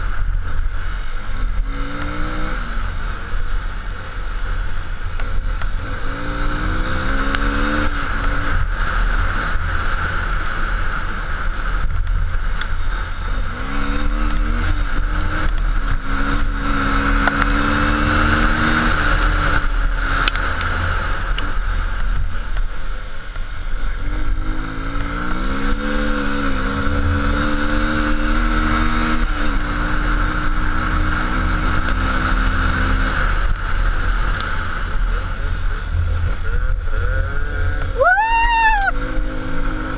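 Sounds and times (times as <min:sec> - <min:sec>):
road and wind noise: 0:00.0 - 0:39.9
car engine changing gears: 0:04.9 - 0:39.9.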